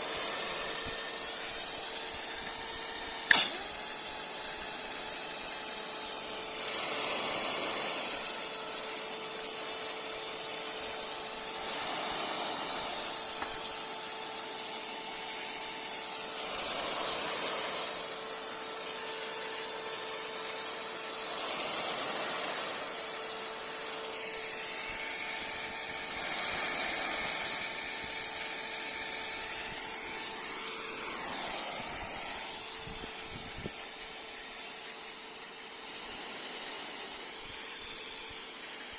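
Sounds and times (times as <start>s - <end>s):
sprinkler spraying water: 0.0s - 38.9s.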